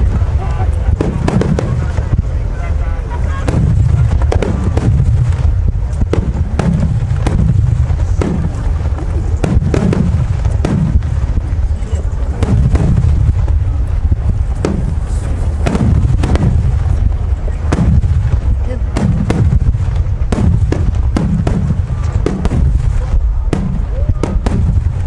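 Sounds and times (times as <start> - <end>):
low rumble of echoing booms: 0.0 - 25.0
firework shells bursting: 3.4 - 25.0.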